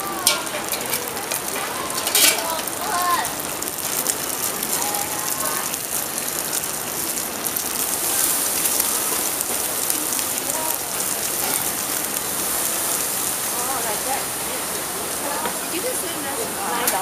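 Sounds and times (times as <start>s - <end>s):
pancakes sizzling in oil: 0.0s - 17.0s.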